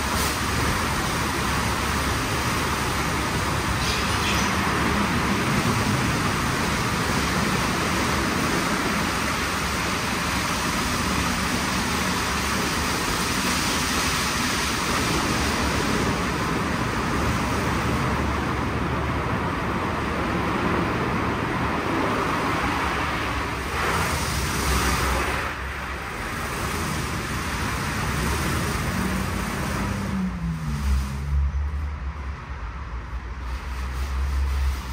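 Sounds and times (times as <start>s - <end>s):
car wash machinery and water rushing: 0.0s - 34.9s.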